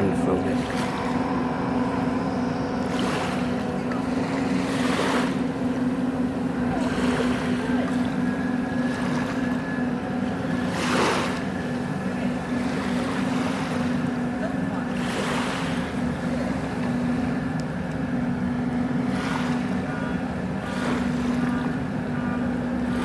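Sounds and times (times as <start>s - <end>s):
ferry engines humming: 0.0s - 23.0s.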